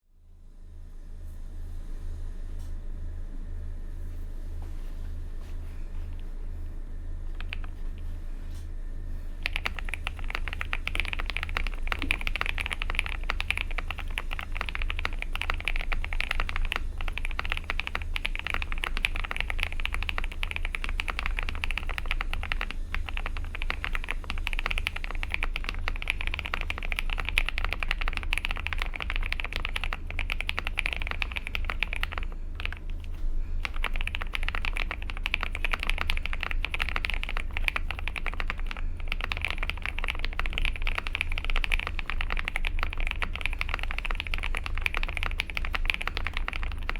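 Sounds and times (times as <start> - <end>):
mechanical keyboard typing: 7.3 - 7.9, 9.4 - 46.9.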